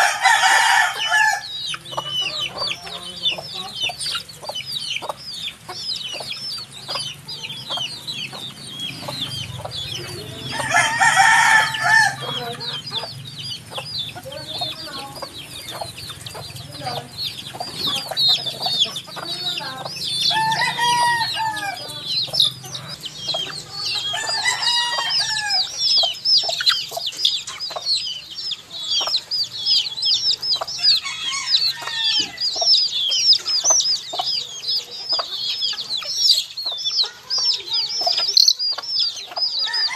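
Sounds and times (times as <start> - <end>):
adult chicken calls: 0.0 - 39.9
baby chicks peeping: 0.0 - 39.9.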